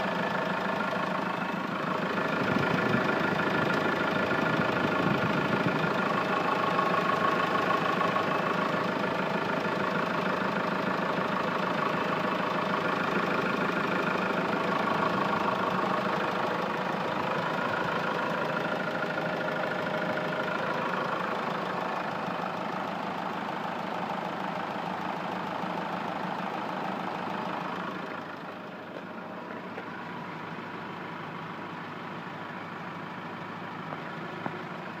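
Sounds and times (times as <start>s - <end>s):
van engine idling: 0.0s - 35.0s.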